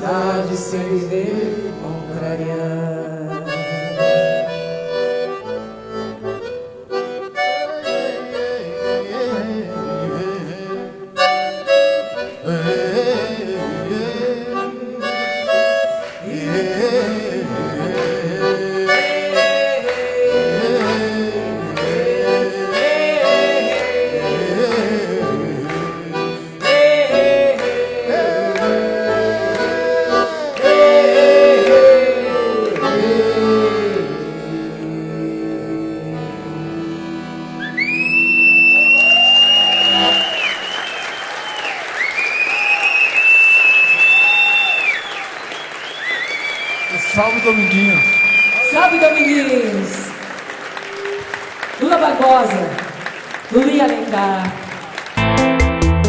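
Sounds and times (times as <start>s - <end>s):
accordion melody: 0.0s - 54.1s, 55.0s - 56.0s.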